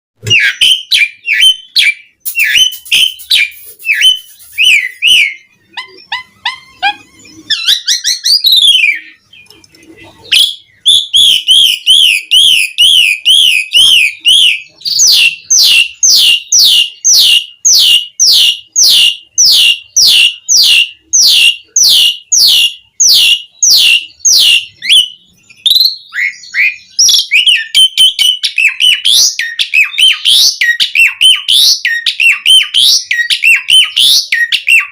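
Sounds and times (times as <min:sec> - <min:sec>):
starling singing: 0:00.2 - 0:34.9.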